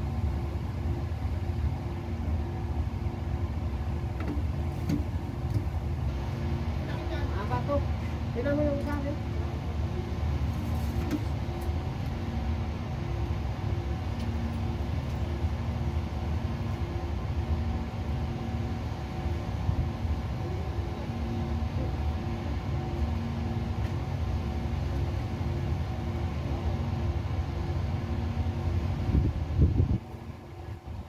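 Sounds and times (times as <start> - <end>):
faint hum: 0.0 - 31.0
low mechanical rumble: 0.0 - 31.0.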